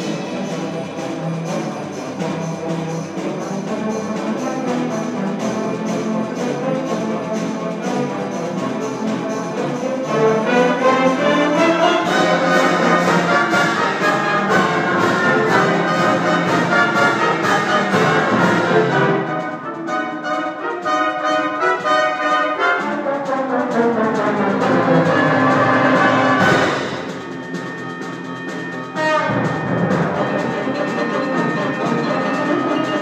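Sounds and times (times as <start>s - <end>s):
brass: 0.0s - 33.0s
concert wind band playing: 0.0s - 33.0s.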